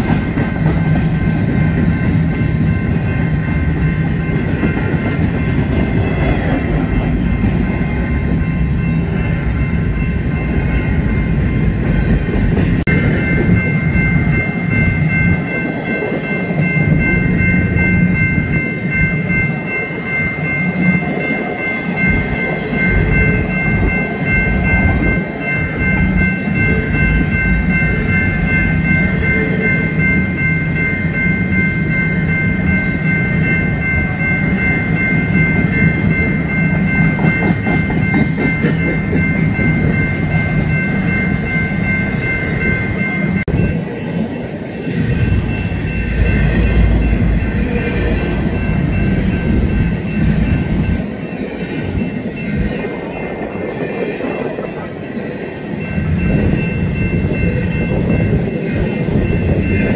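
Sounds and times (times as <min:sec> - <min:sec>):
high ringing tone: 0:00.0 - 0:59.9
train wheels rumbling and rattling: 0:00.0 - 0:59.9.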